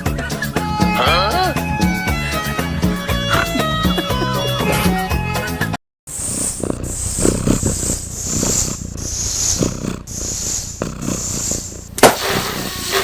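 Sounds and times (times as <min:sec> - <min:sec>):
cat purring: 0:00.5 - 0:05.0, 0:06.1 - 0:13.0.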